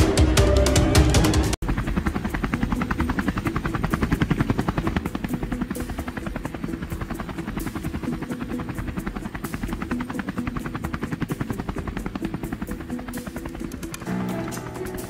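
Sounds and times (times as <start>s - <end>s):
helicopter rotor blades beating: 0.0s - 15.0s
turbine rumble: 1.6s - 15.0s.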